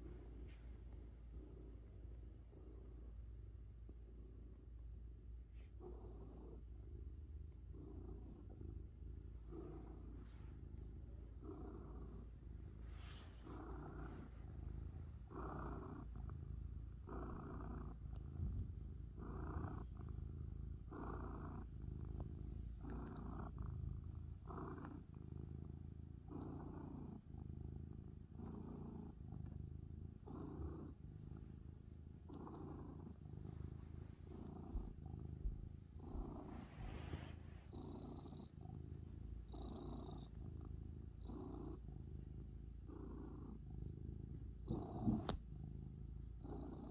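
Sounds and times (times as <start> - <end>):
cat purring: 0.0 - 46.9.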